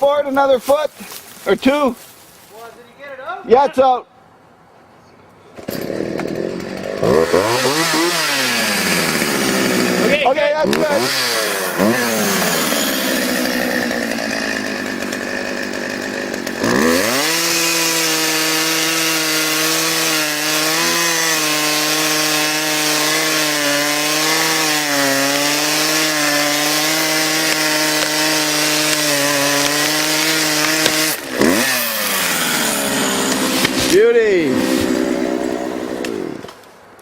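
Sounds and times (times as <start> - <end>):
chainsaw cutting wood: 5.6 - 36.8.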